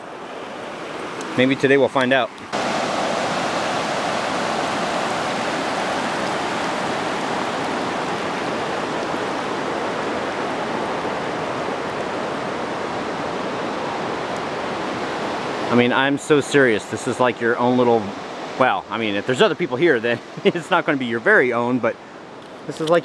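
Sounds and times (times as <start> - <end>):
water rushing over rocks: 0.0 - 21.9.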